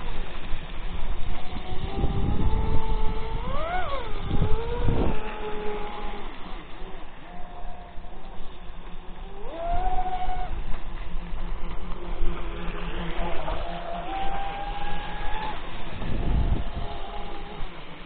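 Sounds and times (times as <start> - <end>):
low rumbling noise: 0.0 - 18.0
rc boat motor whine: 0.0 - 18.0.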